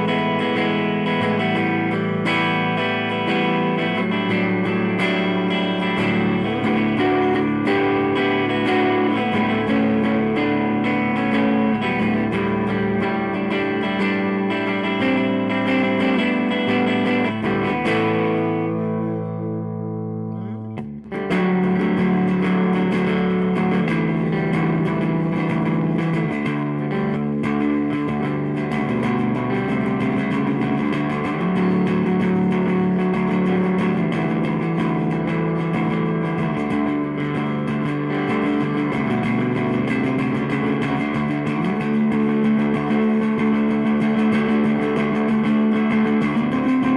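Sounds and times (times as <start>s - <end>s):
overdriven electric guitar playing: 0.0s - 46.9s.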